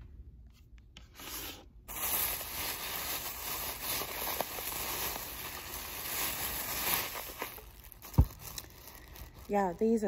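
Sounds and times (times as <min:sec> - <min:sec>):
plastic bag rustling: 0:01.9 - 0:10.0.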